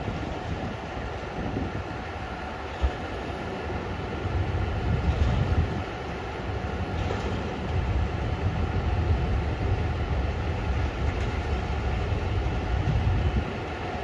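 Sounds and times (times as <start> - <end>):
heavy machinery deep rumble: 0.0 - 14.0.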